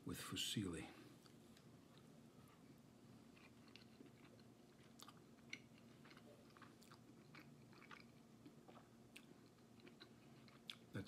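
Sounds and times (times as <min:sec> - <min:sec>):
low steady hum: 0:00.0 - 0:11.0
chewing pasta: 0:01.2 - 0:11.0.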